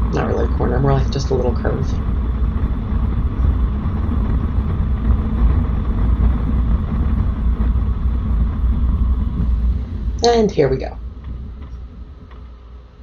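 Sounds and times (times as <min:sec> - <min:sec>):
motorcycle engine rumble: 0:00.0 - 0:13.0
wind noise on microphone: 0:00.0 - 0:13.0.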